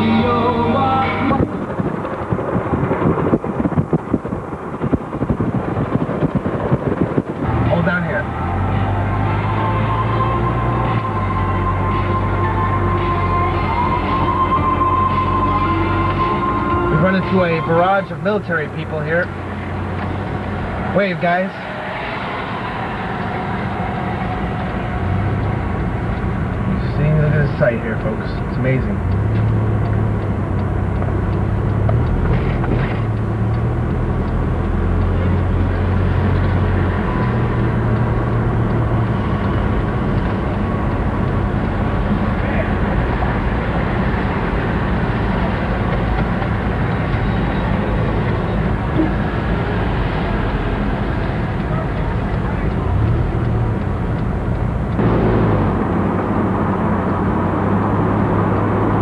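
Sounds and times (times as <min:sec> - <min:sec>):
road rumble: 0:00.0 - 0:59.0
vehicle engine hum: 0:00.0 - 0:59.0.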